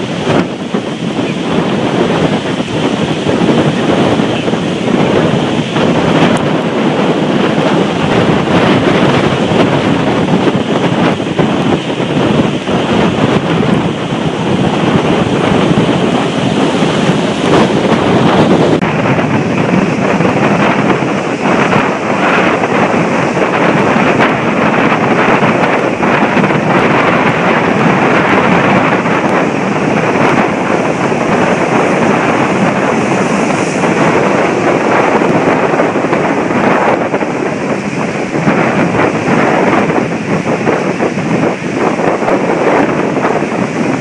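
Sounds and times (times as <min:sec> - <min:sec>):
surf breaking on beach: 0:00.0 - 0:44.0
wind buffeting microphone: 0:00.0 - 0:44.0.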